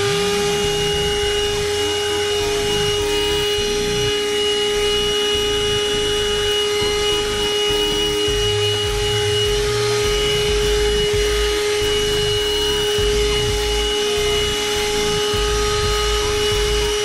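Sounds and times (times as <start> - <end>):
car vacuum cleaner running: 0.0 - 17.0.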